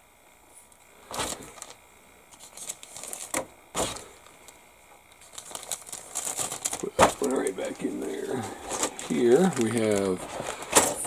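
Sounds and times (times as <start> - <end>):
plastic bag crinkling: 1.1 - 11.0.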